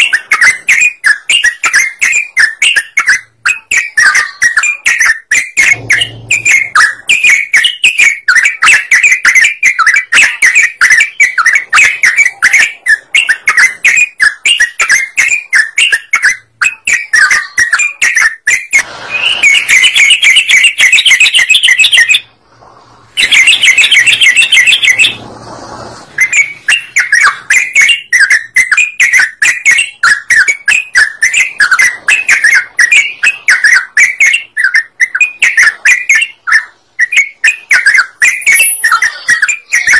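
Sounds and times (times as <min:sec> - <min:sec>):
bird singing fast chirps: 0:00.0 - 0:22.3, 0:23.2 - 0:25.2, 0:26.2 - 0:39.9.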